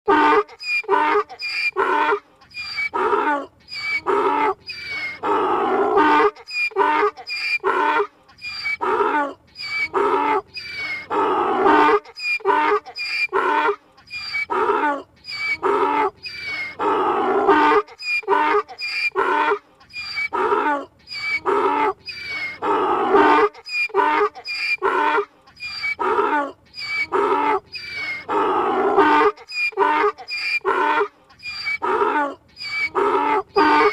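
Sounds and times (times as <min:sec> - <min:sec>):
donkey braying: 0:00.1 - 0:33.9.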